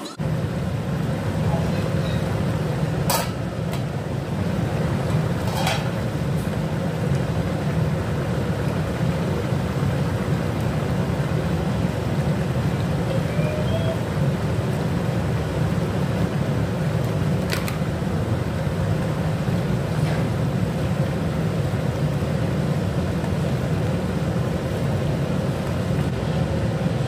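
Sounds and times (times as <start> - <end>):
curry boiling and bubbling: 0.2 - 27.0.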